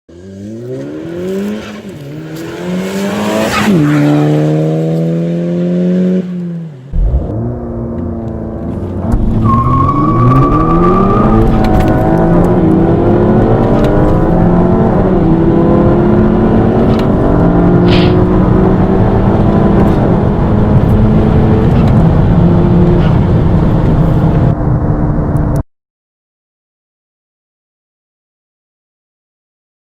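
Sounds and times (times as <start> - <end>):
car engine accelerating hard: 0.1 - 25.6.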